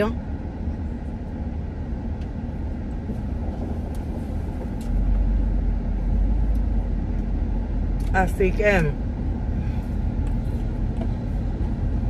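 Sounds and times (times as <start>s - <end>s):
vehicle rumble inside car: 0.0s - 12.0s.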